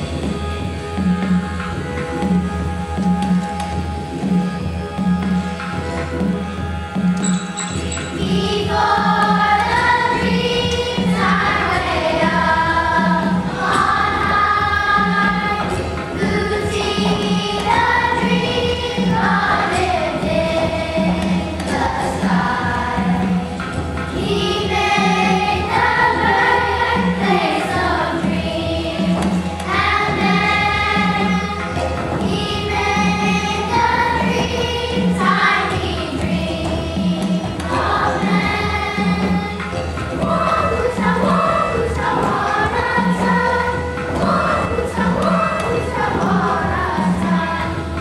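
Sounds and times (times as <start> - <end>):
choir singing over a beat: 0.0 - 48.0.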